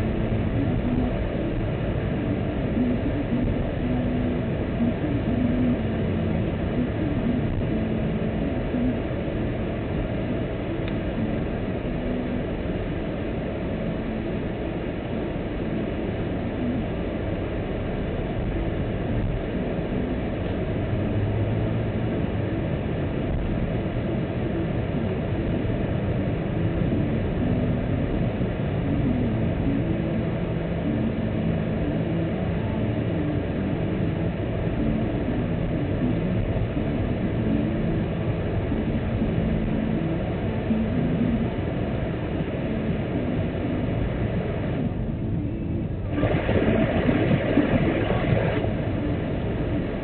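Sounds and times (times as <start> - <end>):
car engine and tyre rumble: 0.0 - 50.0.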